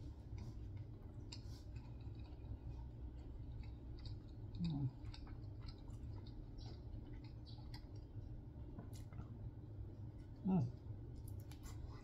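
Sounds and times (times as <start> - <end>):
chewing hard bread: 0.0 - 12.0.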